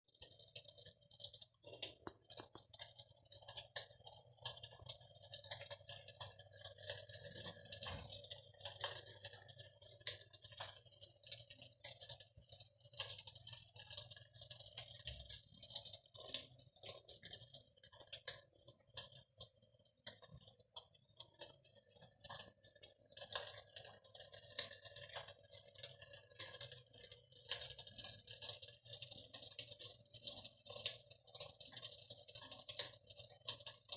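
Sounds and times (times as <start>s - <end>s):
electric fireplace crackling: 0.1s - 33.9s.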